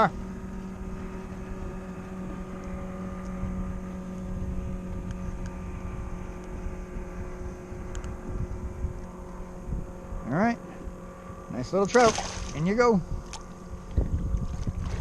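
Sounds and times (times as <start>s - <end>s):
steady motor drone: 0.0s - 15.0s
wind rumble on microphone: 0.0s - 15.0s.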